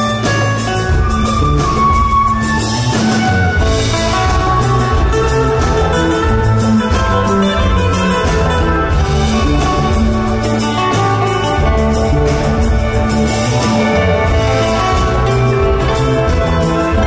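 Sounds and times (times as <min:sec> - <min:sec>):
bass: 0:00.0 - 0:17.0
drums: 0:00.0 - 0:17.0
held keyboard chords: 0:00.0 - 0:17.0.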